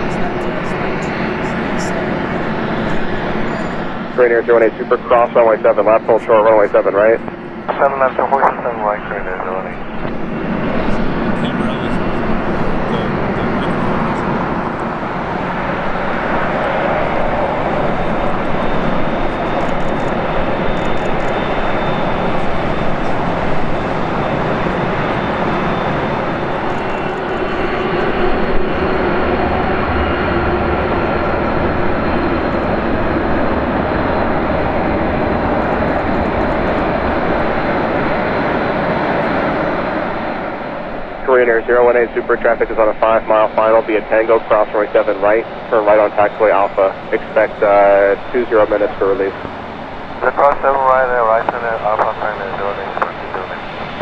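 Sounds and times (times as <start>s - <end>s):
faint high whine: 0.0s - 54.0s
jet engines rumble and hiss: 0.0s - 54.0s.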